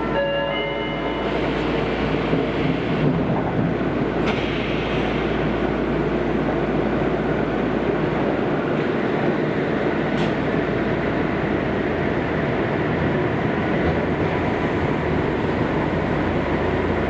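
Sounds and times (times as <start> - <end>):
metro car running in tunnel: 0.0 - 17.0.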